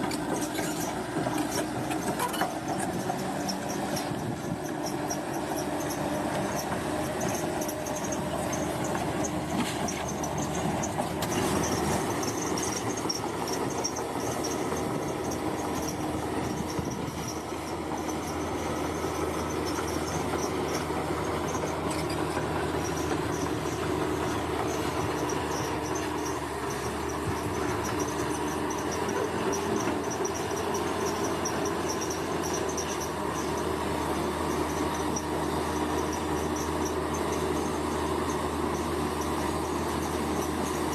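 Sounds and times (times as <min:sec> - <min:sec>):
bulldozer diesel engine rumbling: 0:00.0 - 0:40.9.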